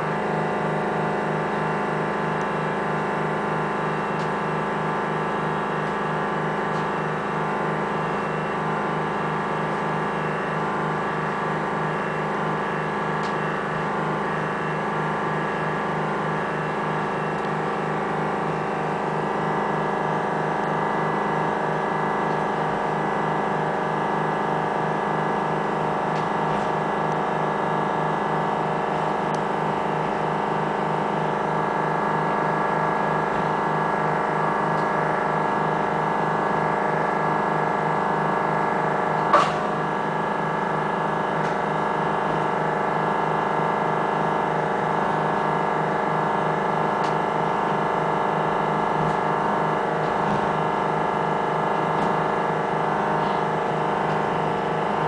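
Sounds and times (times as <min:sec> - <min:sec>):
diesel railbus engine droning: 0:00.0 - 0:55.0.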